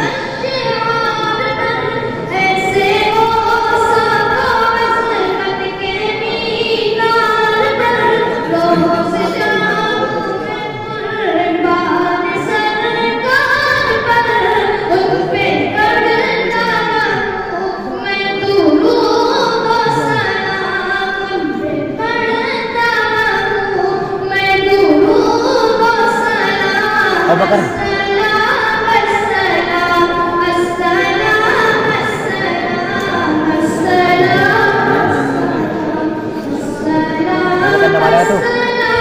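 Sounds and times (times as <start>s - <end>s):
boy singing into a microphone: 0.0s - 39.0s.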